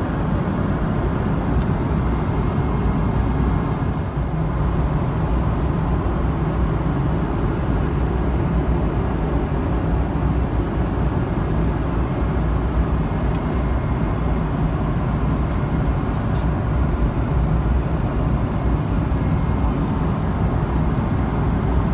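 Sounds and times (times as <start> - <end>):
airliner cabin rumble: 0.0 - 21.9.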